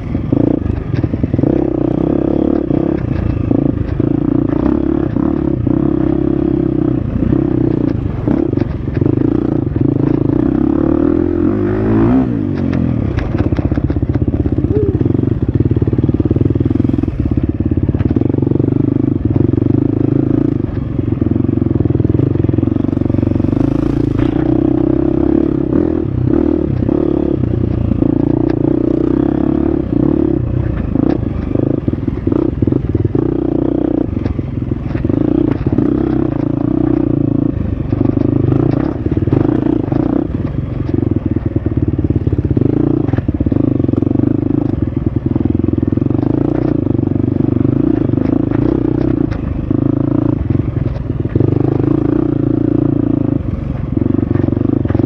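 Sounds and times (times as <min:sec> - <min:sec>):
clatters and knocks over rough ground: 0:00.0 - 0:55.0
dirt bike engine running: 0:00.0 - 0:55.0.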